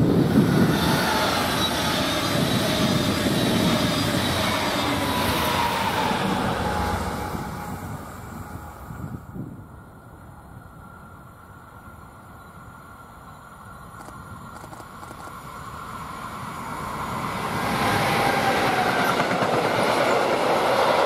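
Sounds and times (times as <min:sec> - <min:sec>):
train wheels rushing on rails: 0:00.0 - 0:10.4, 0:11.1 - 0:21.0.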